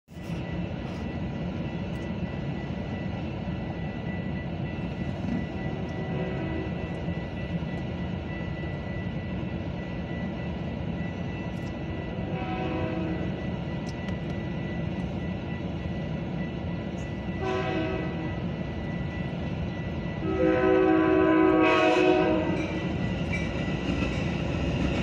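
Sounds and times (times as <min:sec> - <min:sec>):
railroad crossing bell ringing: 0:00.1 - 0:25.0.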